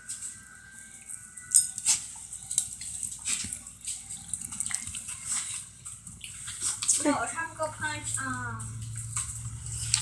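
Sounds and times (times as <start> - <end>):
dog chewing and licking: 1.0 - 10.0.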